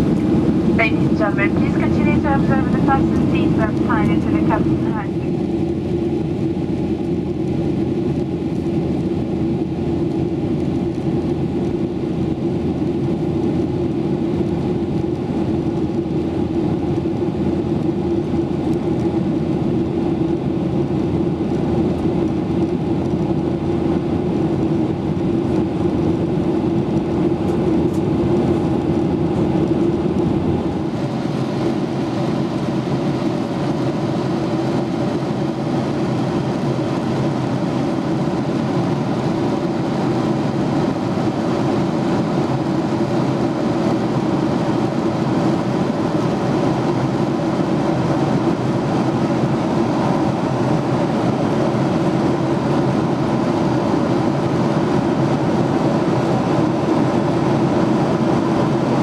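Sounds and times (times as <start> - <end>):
airliner cabin drone: 0.0 - 59.0
jet engine and airflow noise: 0.0 - 59.0.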